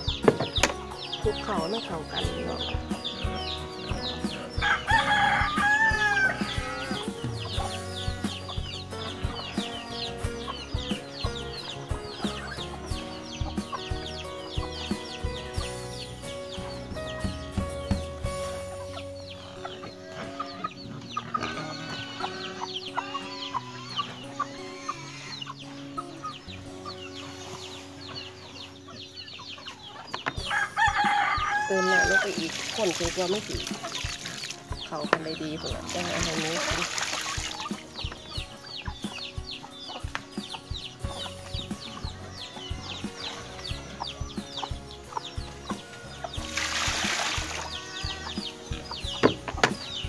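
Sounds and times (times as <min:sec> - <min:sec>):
chickens clucking: 0:00.0 - 0:50.0
music of slow held notes: 0:00.0 - 0:50.0.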